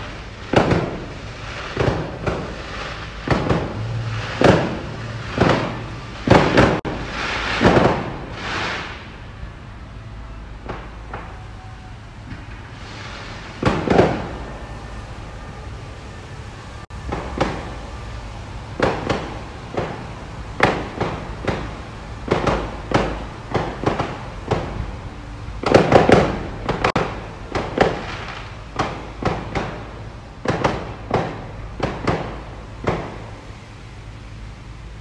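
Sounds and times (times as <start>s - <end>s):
fireworks bangs and pops: 0.0s - 9.4s, 10.5s - 11.5s, 12.3s - 14.9s, 16.9s - 25.0s, 25.6s - 33.4s.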